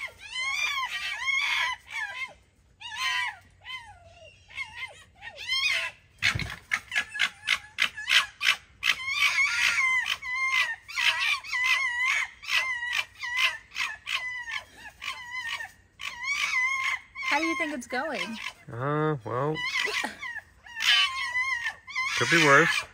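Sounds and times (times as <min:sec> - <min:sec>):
foxes screaming: 0:00.0 - 0:22.9.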